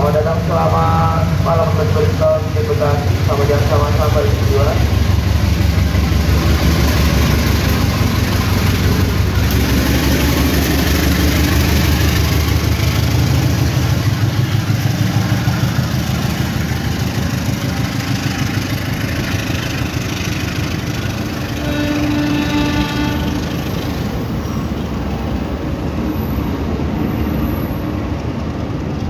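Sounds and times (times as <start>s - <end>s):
diesel locomotive engine: 0.0s - 29.0s
train coaches rumbling on rails: 0.0s - 29.0s.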